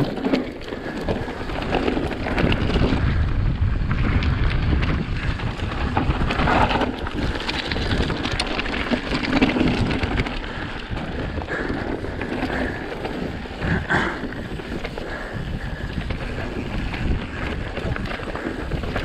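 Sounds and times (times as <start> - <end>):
bike rattling over bumps: 0.0 - 19.0
wind buffeting microphone: 0.0 - 19.0.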